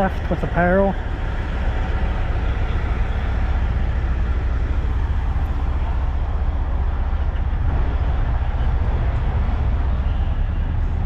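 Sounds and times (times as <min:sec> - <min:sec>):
diesel truck engines idling: 0:00.0 - 0:11.0.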